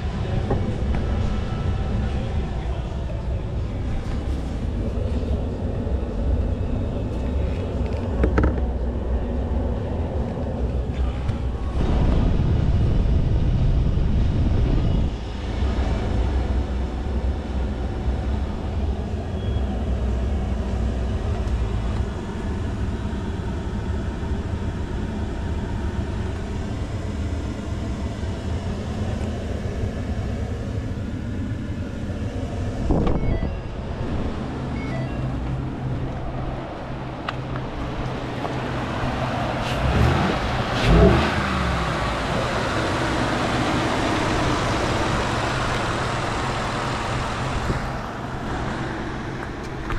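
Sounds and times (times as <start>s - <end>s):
pickup truck engine idling: 0.0s - 49.9s.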